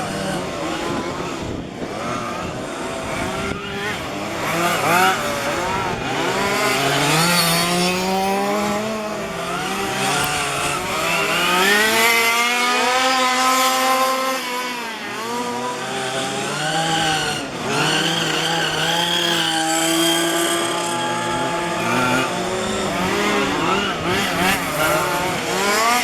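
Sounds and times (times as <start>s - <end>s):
small two-stroke engines racing: 0.0s - 26.0s.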